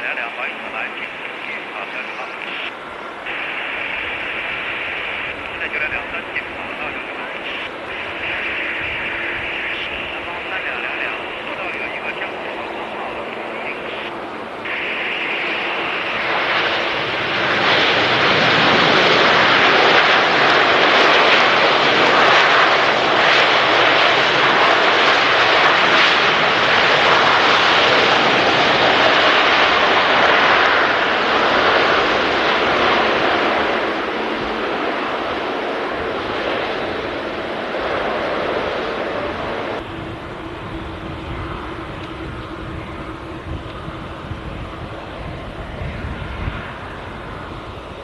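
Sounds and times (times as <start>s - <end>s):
jet airliner engine roar: 0.0s - 48.0s.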